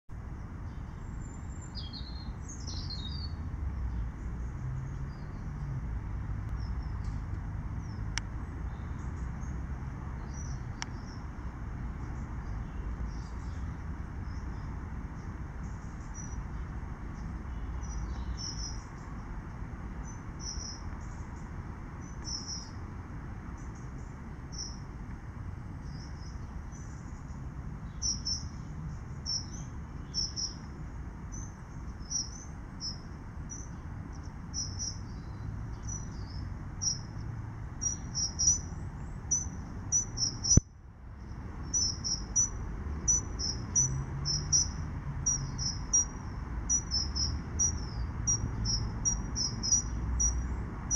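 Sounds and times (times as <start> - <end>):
white-noise hiss: 0.1 - 50.9
small birds chirping: 0.2 - 50.9.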